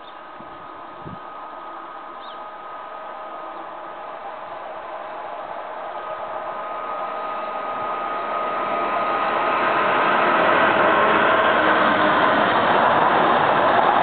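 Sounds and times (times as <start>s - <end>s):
diesel locomotive passing: 0.0s - 14.0s
freight wagons rolling over rails: 0.6s - 14.0s.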